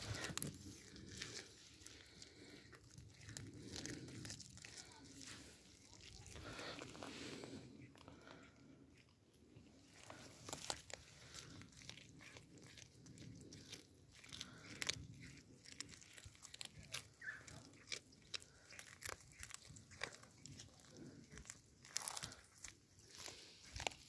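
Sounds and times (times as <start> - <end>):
cats crunching raw fish: 0.0 - 24.0.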